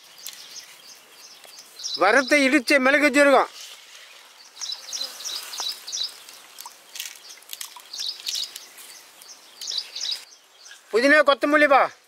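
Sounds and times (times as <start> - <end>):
small bird chirping: 0.0 - 2.8, 3.5 - 11.2.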